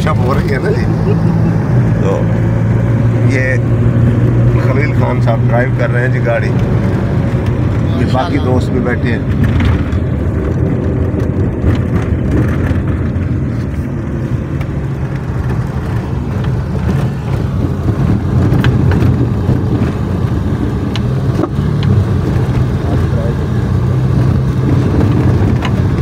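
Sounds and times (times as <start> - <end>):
van engine and road rumble: 0.0 - 26.0.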